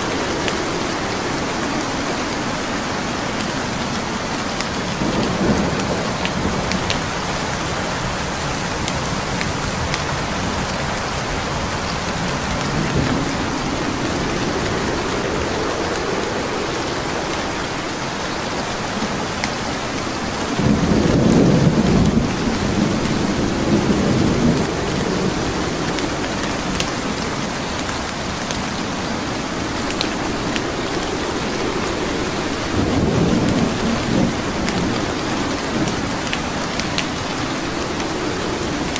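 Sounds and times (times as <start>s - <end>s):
burning logs crackling: 0.0s - 38.9s
steady rain: 0.0s - 38.9s
thunder rumbling: 0.0s - 38.9s.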